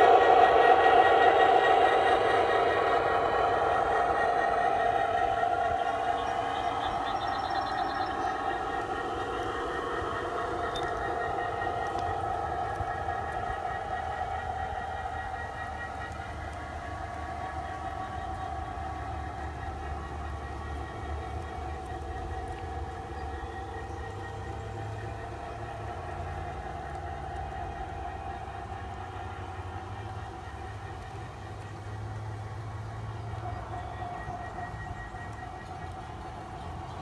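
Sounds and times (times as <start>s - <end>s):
model locomotive hum: 0.0s - 37.0s.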